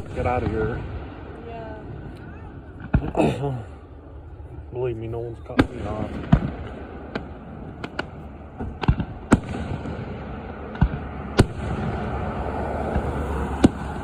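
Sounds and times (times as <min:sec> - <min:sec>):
fireworks bangs: 0:00.0 - 0:14.0
low background rumble: 0:00.0 - 0:14.0.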